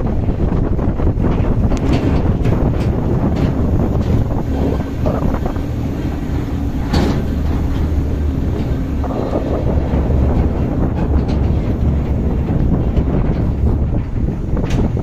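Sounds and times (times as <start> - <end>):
knocks and rattles: 0.0 - 15.0
vehicle engine and road rumble: 0.0 - 15.0.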